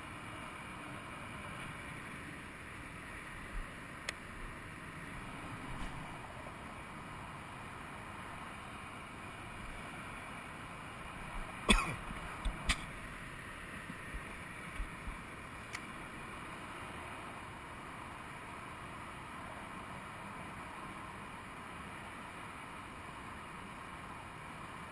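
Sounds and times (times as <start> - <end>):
distant freeway traffic hum: 0.0 - 24.9.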